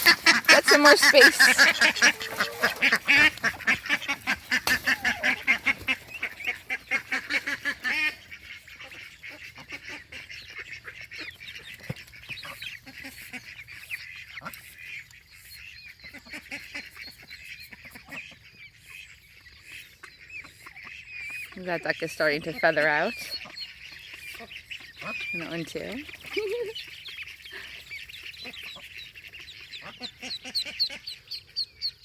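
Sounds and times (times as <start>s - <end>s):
faint high peeping: 0.0s - 32.0s
goslings and ducklings calling: 0.0s - 32.0s.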